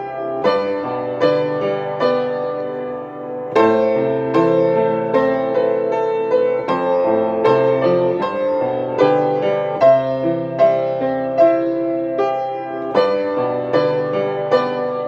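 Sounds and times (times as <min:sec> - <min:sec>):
solo piano ballad: 0:00.0 - 0:15.0.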